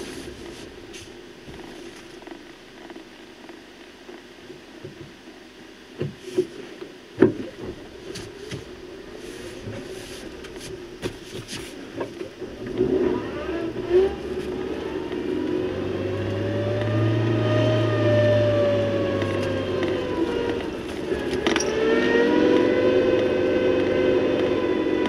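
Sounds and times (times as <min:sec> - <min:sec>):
vehicle engine driving: 0:00.0 - 0:02.7, 0:07.2 - 0:25.0.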